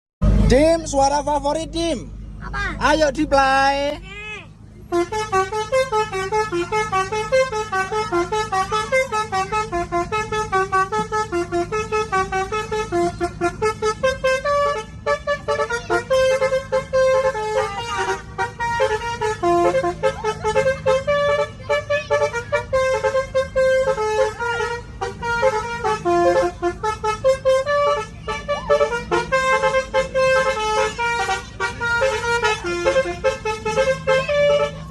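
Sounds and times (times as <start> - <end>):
vehicle engine drone: 0.2 - 34.9
multi-tone musical horn: 4.9 - 34.9.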